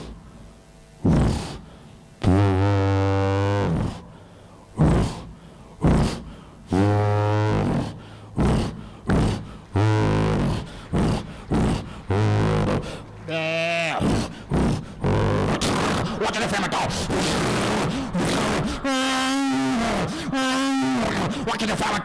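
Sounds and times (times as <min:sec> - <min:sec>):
voice imitating dinosaur calls: 0:01.0 - 0:22.0.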